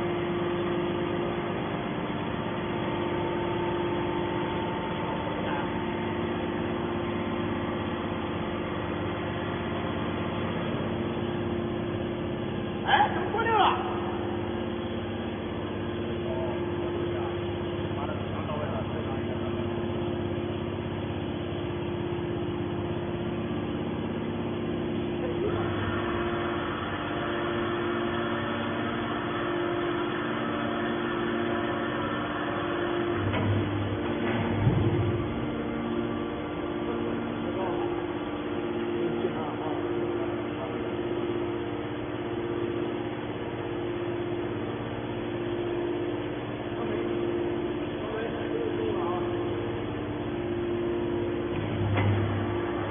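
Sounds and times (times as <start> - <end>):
high steady whine: 0.0 - 52.9
hydraulic machinery humming: 0.0 - 52.9.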